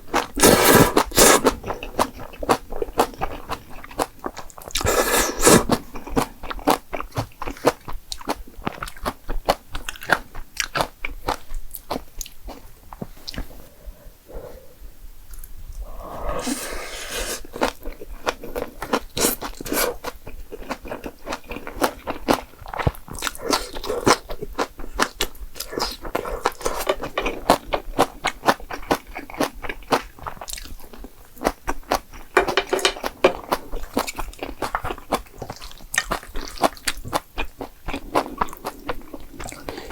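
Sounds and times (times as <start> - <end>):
person chewing and crunching: 0.0 - 13.6, 16.3 - 39.9.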